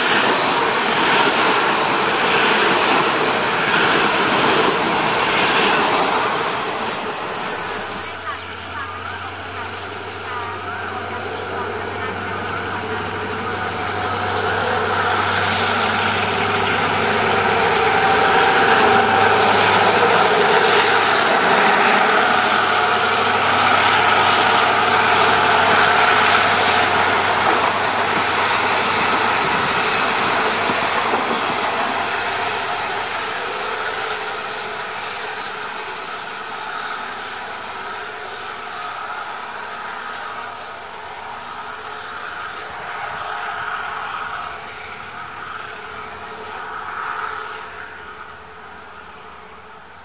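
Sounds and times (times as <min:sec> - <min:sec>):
train wheels on rails: 0:00.0 - 0:50.0.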